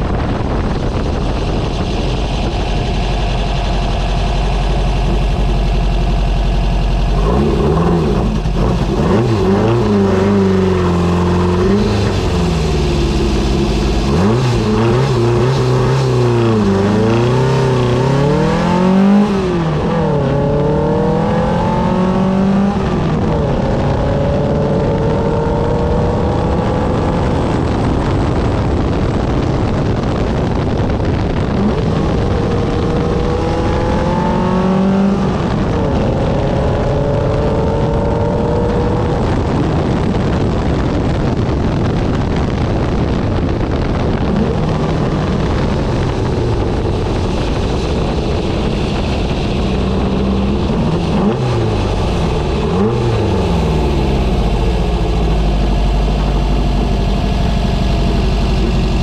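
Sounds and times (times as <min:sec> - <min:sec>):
race car engine revving: 0:00.0 - 0:59.0
wind and road noise: 0:00.0 - 0:59.0.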